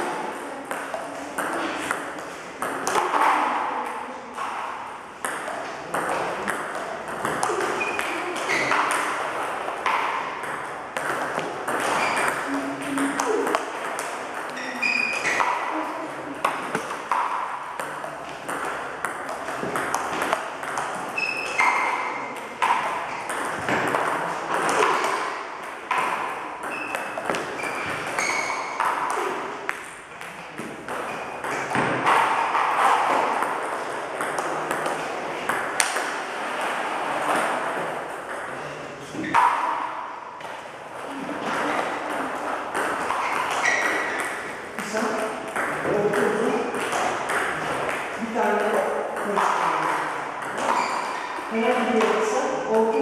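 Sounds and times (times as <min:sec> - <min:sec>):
table tennis balls clicking: 0:00.2 - 0:53.0.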